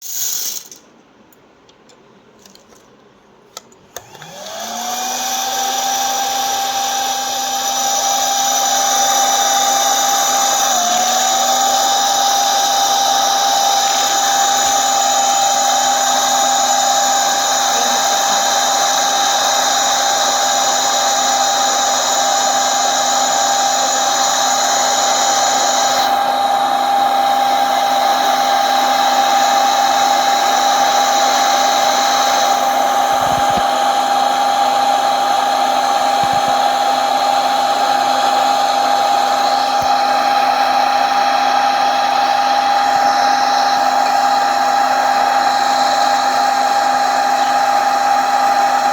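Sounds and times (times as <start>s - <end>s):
popcorn machine motor whirring: 3.9s - 48.9s.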